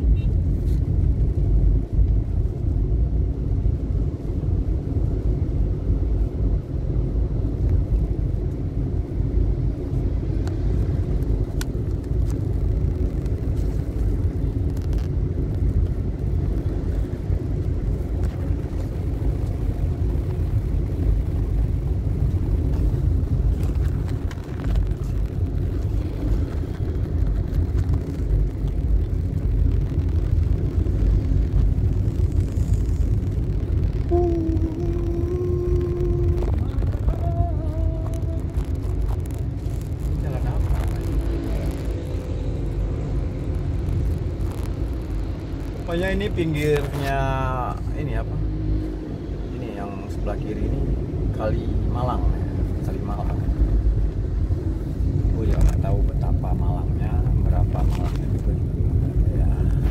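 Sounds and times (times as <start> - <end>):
car cabin rumble while driving: 0.0 - 59.9.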